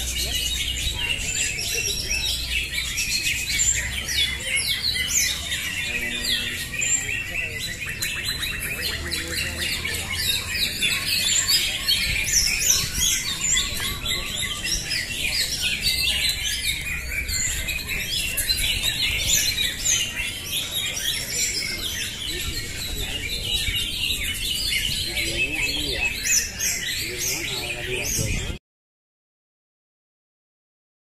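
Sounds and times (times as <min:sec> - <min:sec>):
caged birds singing: 0:00.0 - 0:28.6.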